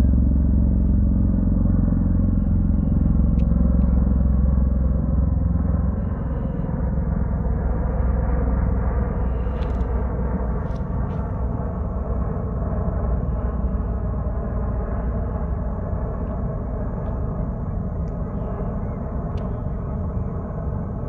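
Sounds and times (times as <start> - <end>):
aircraft droning overhead: 0.0 - 21.0.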